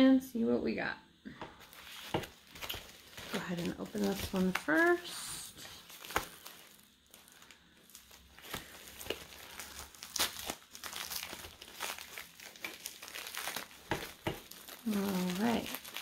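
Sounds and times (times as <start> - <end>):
plastic wrapping crinkling: 1.4 - 16.0
plastic tearing: 1.6 - 16.0.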